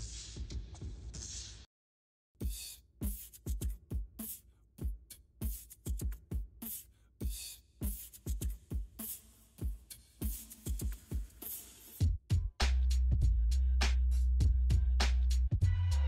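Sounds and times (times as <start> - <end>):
background music with drum beat: 0.0 - 1.6, 2.4 - 16.0.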